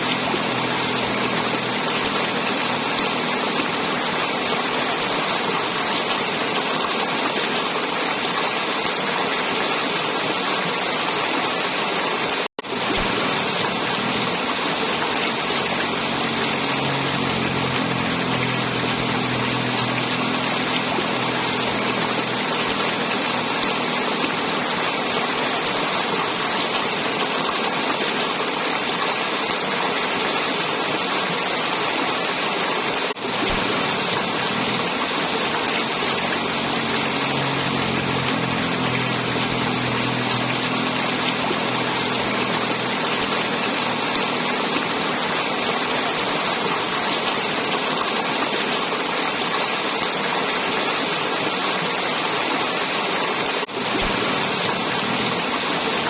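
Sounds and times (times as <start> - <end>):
river water flowing and gurgling: 0.0 - 56.0.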